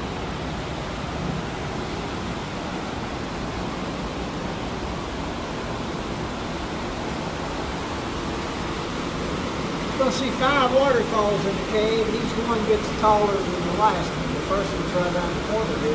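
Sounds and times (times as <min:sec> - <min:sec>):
cave stream and waterfalls rushing: 0:00.0 - 0:15.9.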